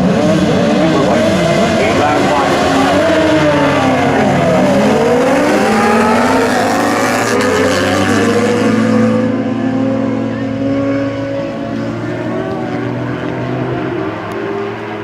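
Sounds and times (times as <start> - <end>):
racing motorcycles at high revs: 0.0 - 15.0.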